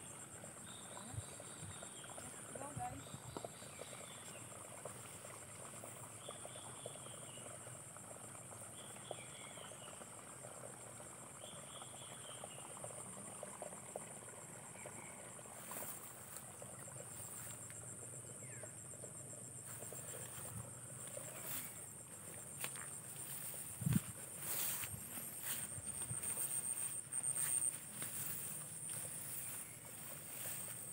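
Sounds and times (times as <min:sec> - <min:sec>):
high-pitched insect chorus: 0:00.0 - 0:30.9.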